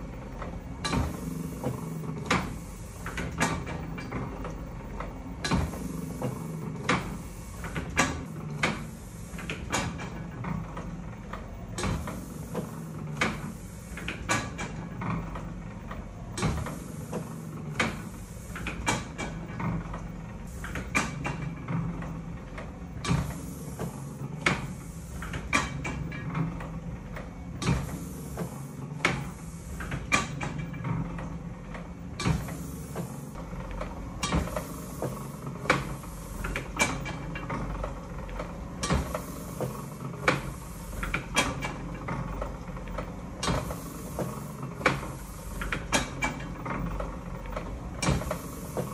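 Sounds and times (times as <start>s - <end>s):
printing press clacking: 0.0s - 48.9s.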